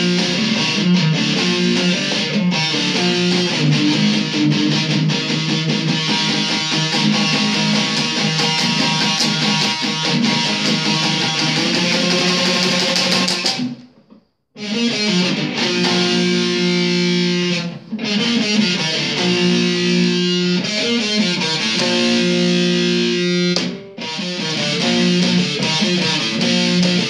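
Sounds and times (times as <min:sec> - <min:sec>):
electric guitar playing swing chords: 0:00.0 - 0:27.0.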